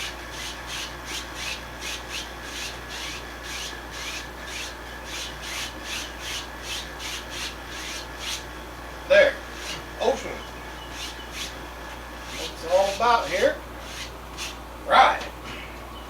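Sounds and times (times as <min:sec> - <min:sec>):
brush rubbing on canvas: 0:00.0 - 0:08.4, 0:09.5 - 0:14.6.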